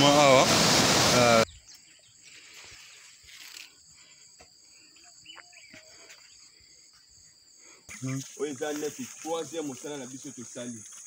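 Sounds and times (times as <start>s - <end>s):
high-pitched insect trilling: 1.4s - 11.0s.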